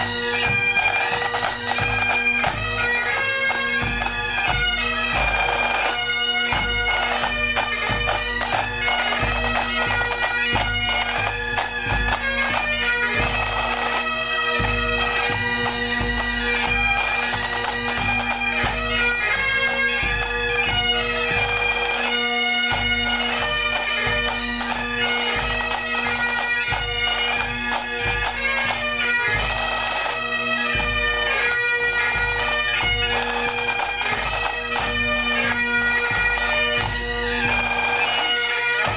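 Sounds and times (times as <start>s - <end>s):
bagpipes playing a tune: 0.0s - 38.9s.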